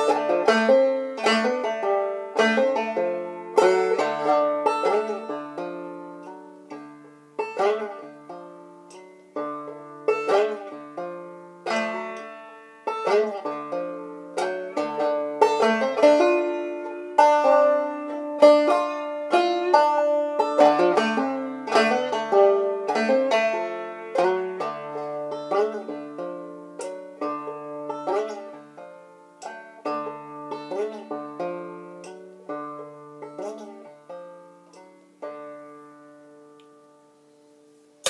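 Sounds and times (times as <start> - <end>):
banjo playing: 0.0 - 38.0.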